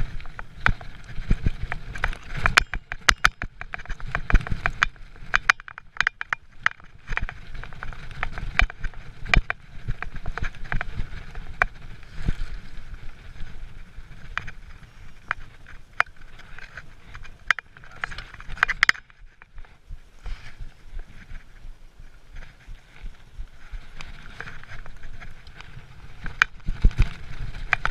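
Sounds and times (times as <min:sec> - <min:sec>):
bike clicking and rattling: 0:00.0 - 0:27.9
bike tyres rumbling over gravel: 0:00.0 - 0:27.9.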